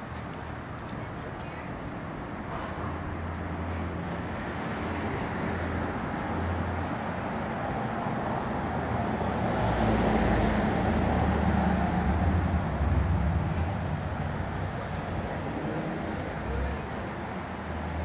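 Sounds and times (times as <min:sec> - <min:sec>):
vehicle engine and tyres passing: 0:00.0 - 0:18.0.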